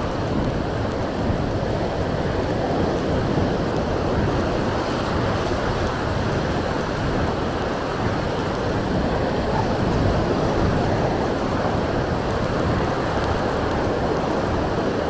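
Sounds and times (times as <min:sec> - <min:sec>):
sea surf washing onto beach: 0:00.0 - 0:15.0
wind buffeting microphone: 0:00.0 - 0:15.0.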